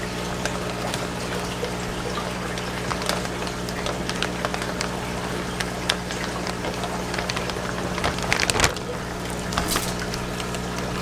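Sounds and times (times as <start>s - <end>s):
crackles: 0.0s - 11.0s
electrical hum: 0.0s - 11.0s
splashing and plastic rustling: 0.0s - 11.0s
water trickling: 0.0s - 11.0s.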